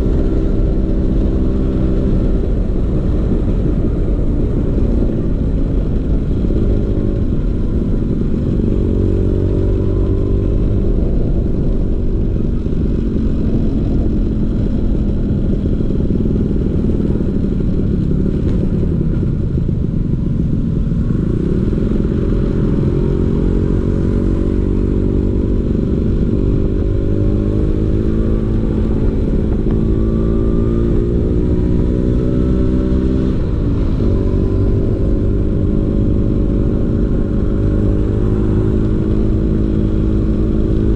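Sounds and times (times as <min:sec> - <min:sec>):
scooter engine accelerating: 0:00.0 - 0:40.9.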